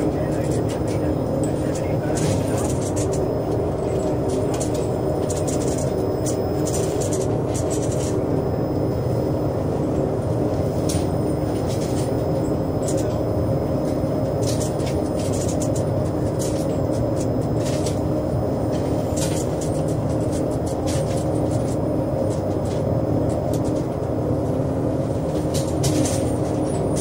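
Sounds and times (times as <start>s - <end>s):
boat engine drone: 0.0s - 27.0s.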